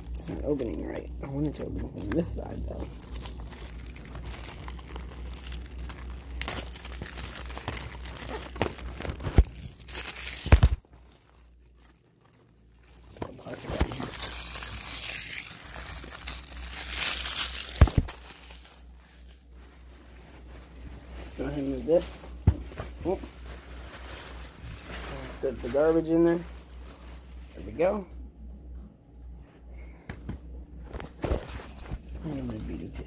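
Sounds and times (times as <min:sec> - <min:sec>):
plastic wrapping crinkling and tearing: 0:00.0 - 0:28.0.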